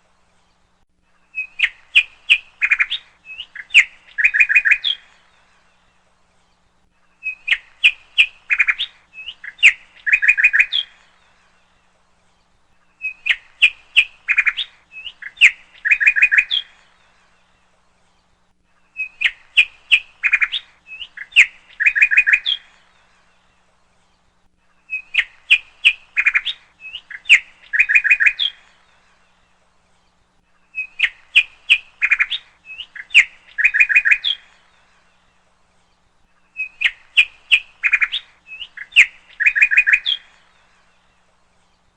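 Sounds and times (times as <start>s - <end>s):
bird chirping and trilling: 1.2s - 5.9s, 7.1s - 11.9s, 12.7s - 18.2s, 18.8s - 41.9s.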